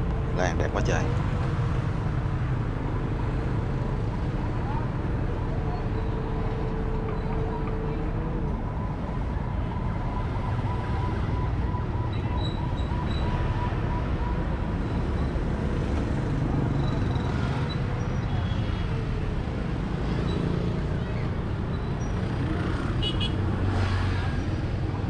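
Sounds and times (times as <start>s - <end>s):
traffic engines rumbling: 0.0s - 25.0s.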